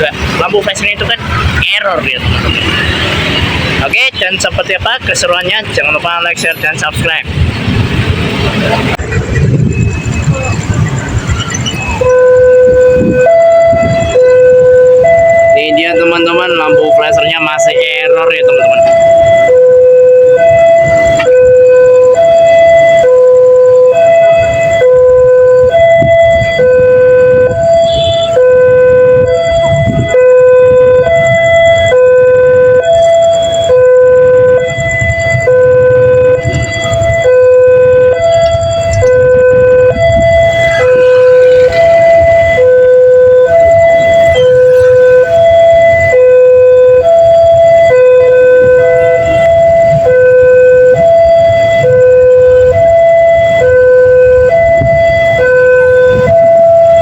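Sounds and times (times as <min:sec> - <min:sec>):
level crossing two-tone alarm: 0:09.5 - 0:57.0.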